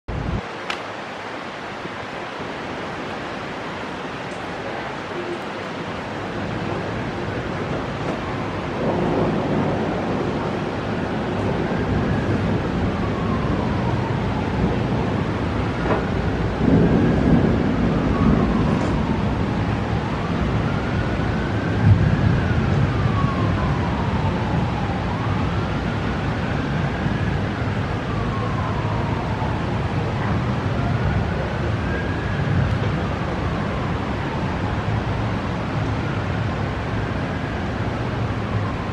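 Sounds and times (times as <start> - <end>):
emergency siren wailing: 0.1 - 38.9
storm noise: 0.1 - 38.9.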